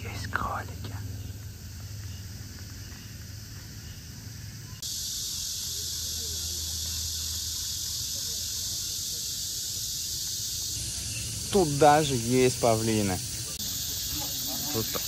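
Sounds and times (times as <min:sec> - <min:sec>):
insect chorus buzzing: 0:00.0 - 0:15.0.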